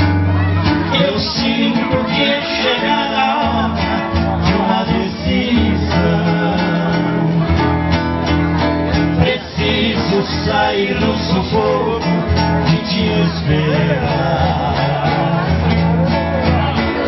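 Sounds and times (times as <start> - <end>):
acoustic guitars playing: 0.0 - 17.0
bass line: 0.0 - 17.0.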